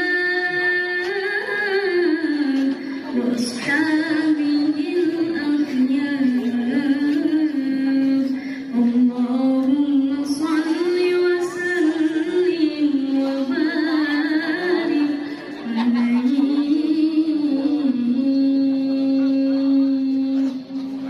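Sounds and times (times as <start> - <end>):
woman reciting melodically: 0.0 - 21.0.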